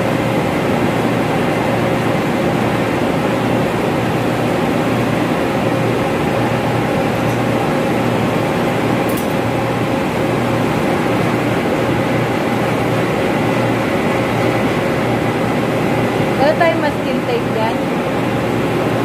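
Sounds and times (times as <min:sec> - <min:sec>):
ventilation machinery drone: 0:00.0 - 0:19.0.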